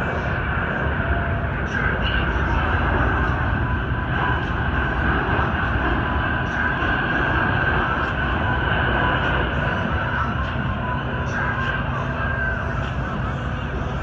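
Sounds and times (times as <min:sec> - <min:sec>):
high engine whine: 0:00.0 - 0:14.0
jet engines in flight: 0:00.0 - 0:14.0.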